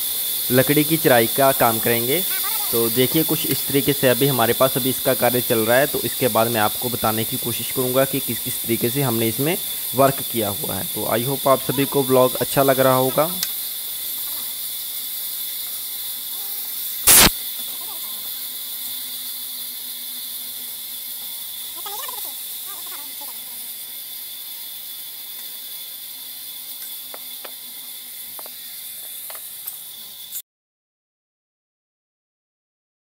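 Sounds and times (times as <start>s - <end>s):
steady background hiss: 0.0s - 30.4s.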